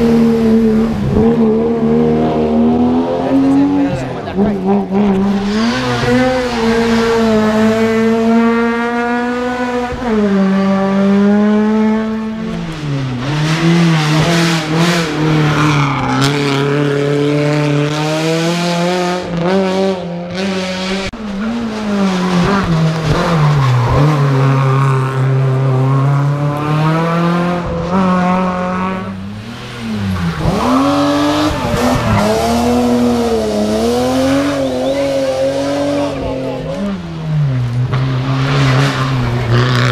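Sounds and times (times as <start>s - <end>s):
rally car engine at full throttle: 0.0s - 39.9s.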